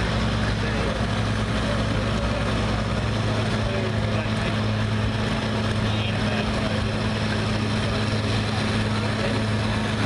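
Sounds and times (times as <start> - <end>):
tractor engine under heavy load: 0.0 - 10.0.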